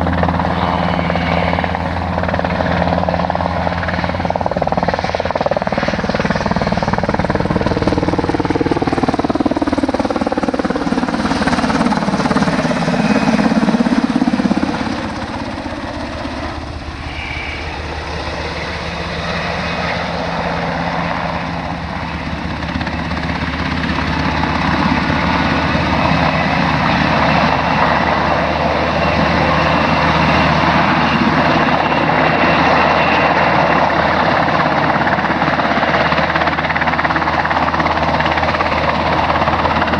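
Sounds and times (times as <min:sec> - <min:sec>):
helicopters flying low overhead: 0:00.0 - 0:39.9.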